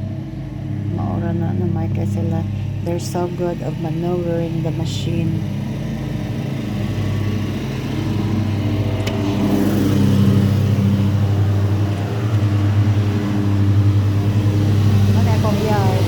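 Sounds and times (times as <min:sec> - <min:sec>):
riding lawn mower engine: 0:00.0 - 0:16.0.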